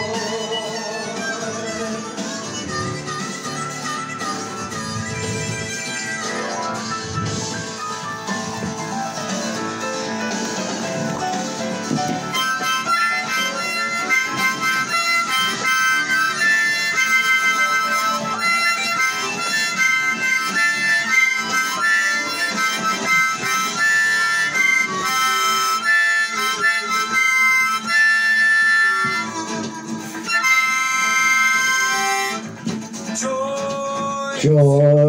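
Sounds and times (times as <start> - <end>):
harmonica solo: 0.0 - 33.0.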